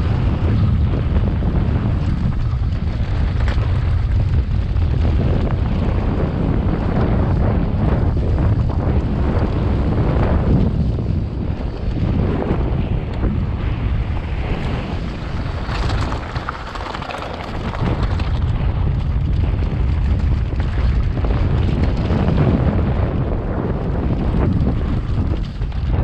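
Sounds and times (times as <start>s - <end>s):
bike rattling over stones: 0.0s - 26.0s
tyre rumble: 0.0s - 26.0s
wind buffeting microphone: 0.0s - 26.0s.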